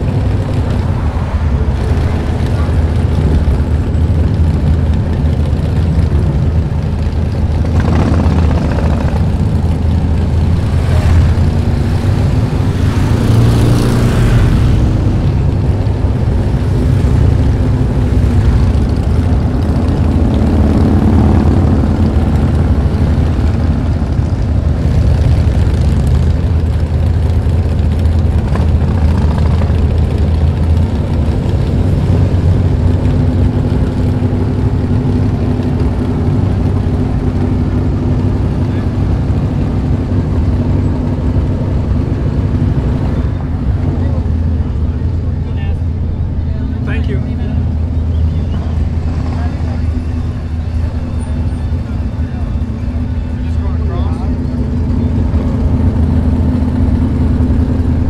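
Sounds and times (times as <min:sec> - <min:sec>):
motorcycle engines rumbling: 0:00.0 - 0:58.0
motorcycle revving: 0:00.0 - 0:58.0.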